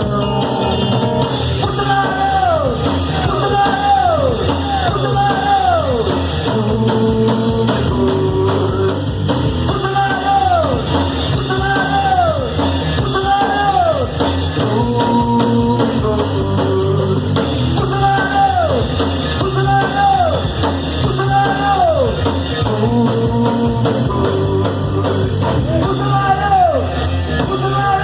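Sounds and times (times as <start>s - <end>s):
drum kit: 0.0s - 28.0s
electric guitar: 0.0s - 28.0s
live rock band playing: 0.0s - 28.0s.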